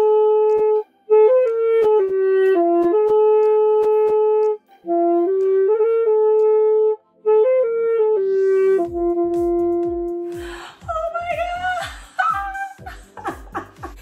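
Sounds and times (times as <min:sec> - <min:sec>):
alto saxophone slow melody: 0:00.0 - 0:11.7.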